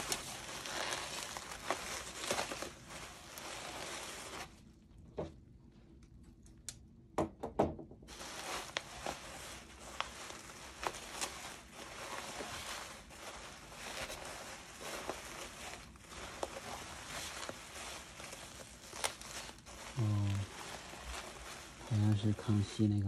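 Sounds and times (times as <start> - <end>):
bubble wrap crackling: 0.0 - 5.0, 8.1 - 23.0
bubble wrap crinkling: 0.0 - 5.1, 8.1 - 23.0.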